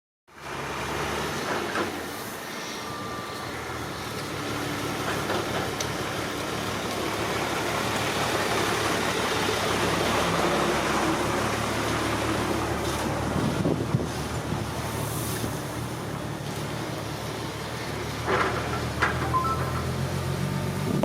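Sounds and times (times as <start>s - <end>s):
excavator engine running: 0.4s - 21.0s.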